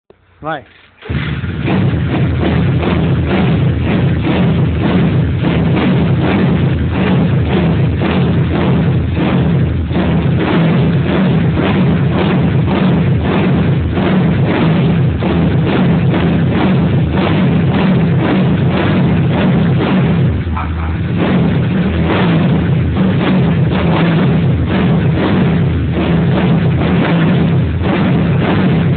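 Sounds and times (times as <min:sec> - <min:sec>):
motorcycle engine revving hard: 0:00.7 - 0:28.9.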